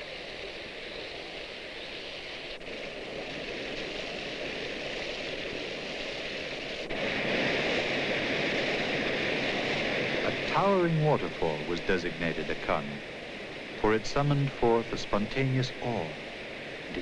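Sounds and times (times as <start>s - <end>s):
stream running over rocks: 0.0s - 17.0s
waterfall: 0.0s - 17.0s.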